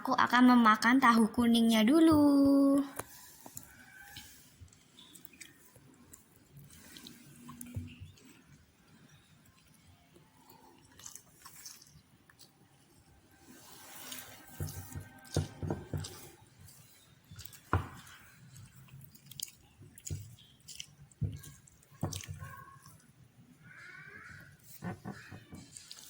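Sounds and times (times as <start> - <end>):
person chewing: 3.0 - 26.0.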